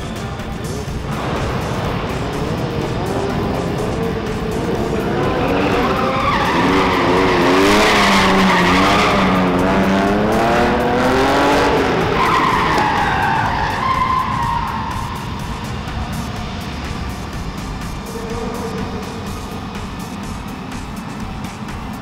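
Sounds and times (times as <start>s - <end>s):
car engine revving hard: 0.0s - 21.4s
tyres squealing: 0.0s - 22.0s.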